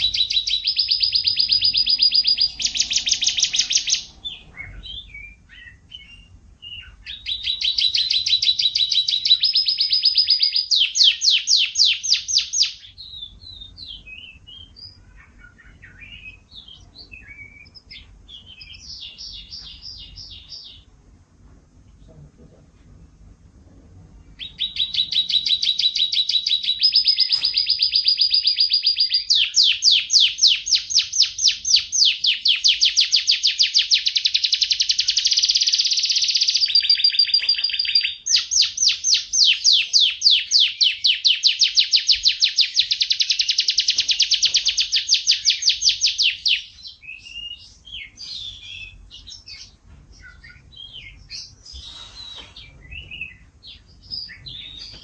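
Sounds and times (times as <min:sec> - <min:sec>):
canary singing trills: 0:00.0 - 0:21.0, 0:24.1 - 0:55.0.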